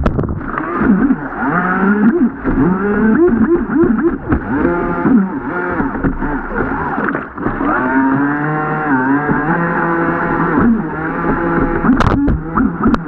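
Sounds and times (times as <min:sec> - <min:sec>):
model boat motor revving: 0:00.4 - 0:13.0.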